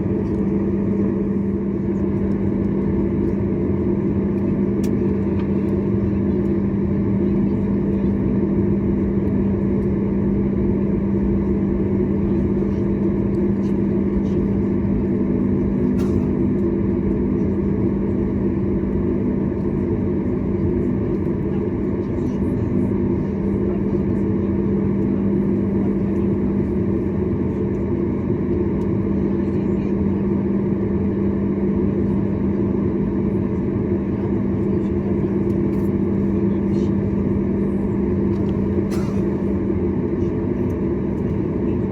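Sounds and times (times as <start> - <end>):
constant low hum: 0.0 - 41.9
jet engine drone in cabin: 0.0 - 41.9.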